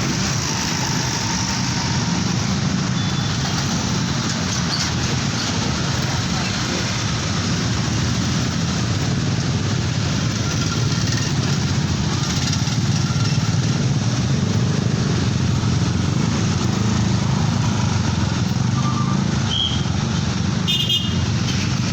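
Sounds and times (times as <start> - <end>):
rumble of passing vehicles: 0.0 - 21.9.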